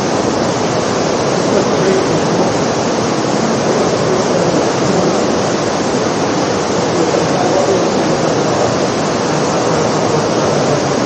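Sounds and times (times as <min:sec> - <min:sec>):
artificial rain pouring on floor: 0:00.0 - 0:11.0.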